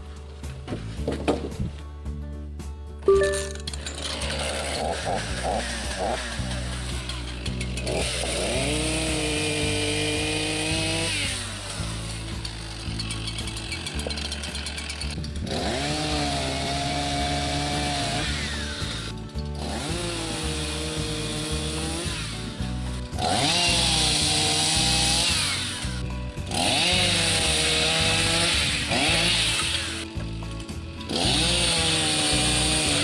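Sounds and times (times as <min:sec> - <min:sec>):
background music: 0:00.0 - 0:33.0
chainsaw revving: 0:03.9 - 0:22.3, 0:23.2 - 0:25.8, 0:26.5 - 0:30.0, 0:31.1 - 0:33.0.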